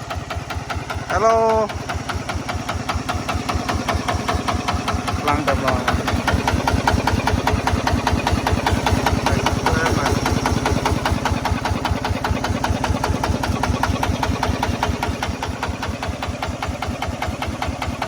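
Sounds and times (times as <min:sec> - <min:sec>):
diesel engine chugging: 0:00.0 - 0:18.0.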